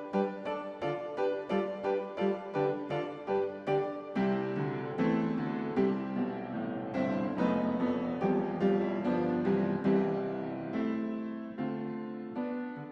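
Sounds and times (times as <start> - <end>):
gentle piano music: 0.0 - 12.9.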